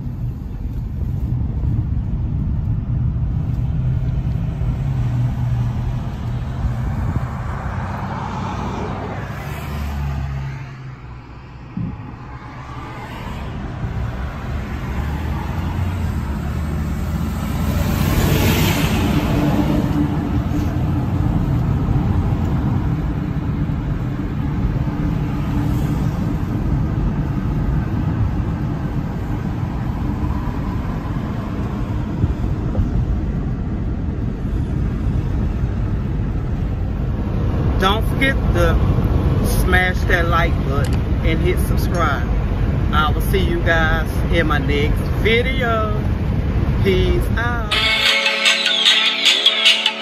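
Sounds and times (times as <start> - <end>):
car interior road and engine noise: 0.0 - 50.0.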